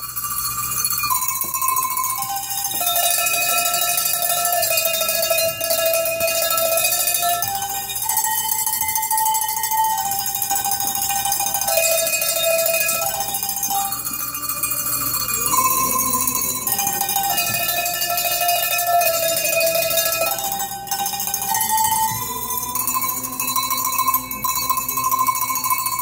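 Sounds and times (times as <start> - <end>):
cowbells ringing a melody: 0.0 - 26.0.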